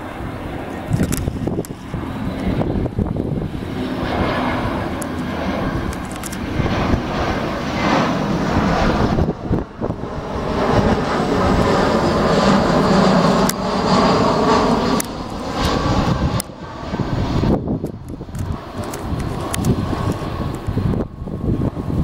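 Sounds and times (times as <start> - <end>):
airliner engines roaring: 0.0 - 22.0.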